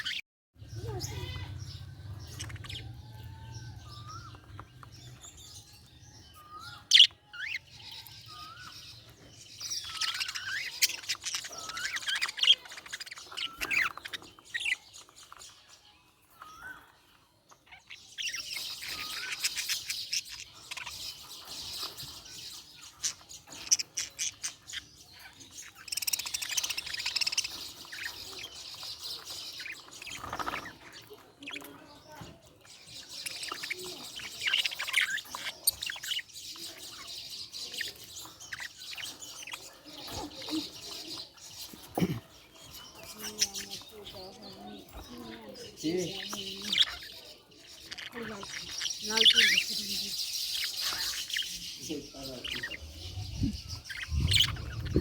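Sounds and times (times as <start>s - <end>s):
budgies chirping and warbling: 0.0s - 55.0s.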